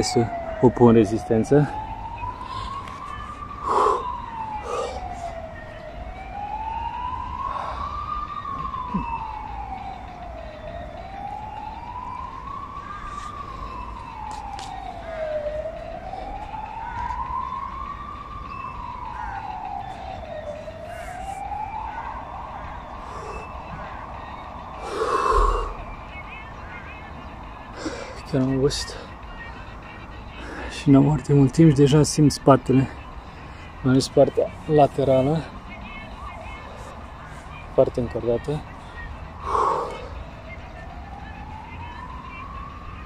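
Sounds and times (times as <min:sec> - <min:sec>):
siren wailing: 0:00.0 - 0:43.0.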